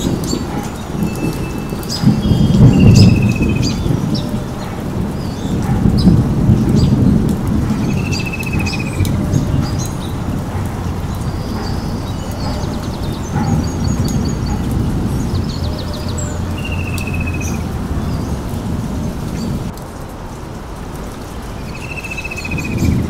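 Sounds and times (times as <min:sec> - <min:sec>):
birds chirping: 0:00.0 - 0:19.8, 0:20.6 - 0:23.0
steady low rushing noise: 0:00.0 - 0:21.6.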